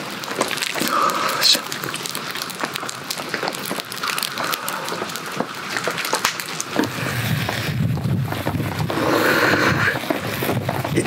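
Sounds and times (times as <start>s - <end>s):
crackling pops: 0.0s - 11.0s
scallops sizzling on a grill: 0.0s - 11.0s.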